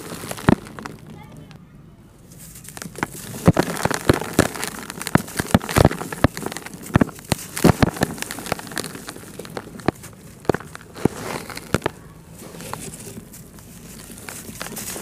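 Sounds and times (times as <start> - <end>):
crumbs falling into plastic tub: 0.0 - 1.5, 2.3 - 15.0
dry dirt crushed by hand: 0.0 - 1.6, 2.2 - 15.0.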